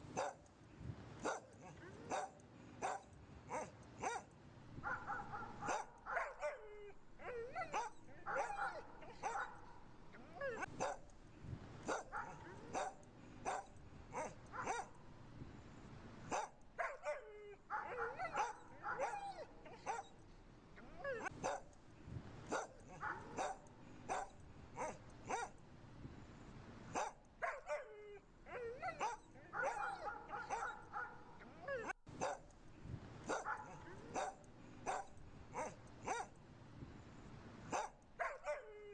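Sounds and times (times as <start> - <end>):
dogs barking: 0.1 - 0.5, 1.2 - 11.2, 11.8 - 15.1, 16.2 - 21.8, 22.4 - 25.6, 26.9 - 32.6, 33.2 - 36.4, 37.6 - 38.9.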